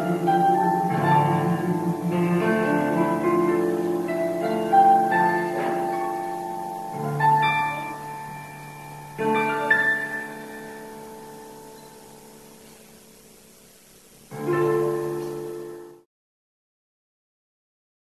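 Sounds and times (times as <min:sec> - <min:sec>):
slow keyboard chords: 0:00.0 - 0:16.1.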